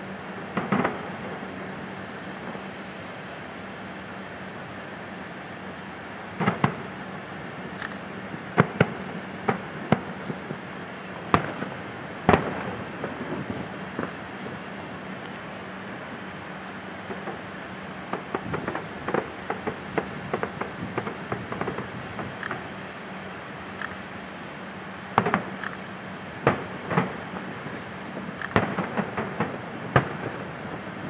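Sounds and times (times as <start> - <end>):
distant fireworks bangs: 0.3 - 31.0.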